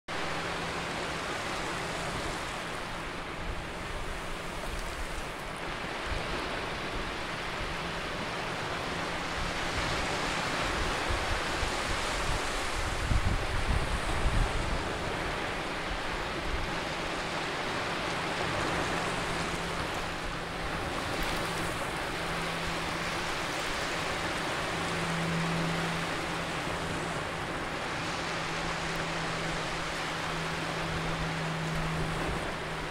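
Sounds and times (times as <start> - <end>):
surf washing up a sandy shore: 0.1 - 32.9.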